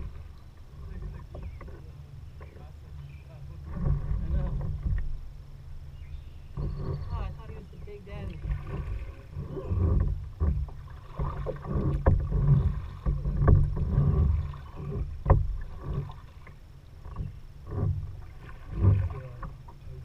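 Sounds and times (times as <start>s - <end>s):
water moving around kayak: 0.0s - 20.0s.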